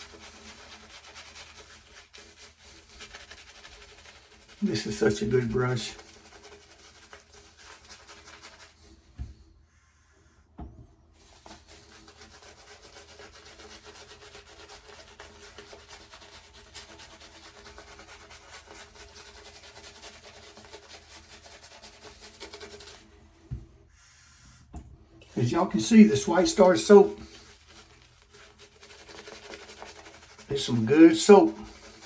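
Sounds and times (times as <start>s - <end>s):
shaving brush rubbing on skin: 0.0s - 9.1s, 11.2s - 23.2s, 25.2s - 32.0s.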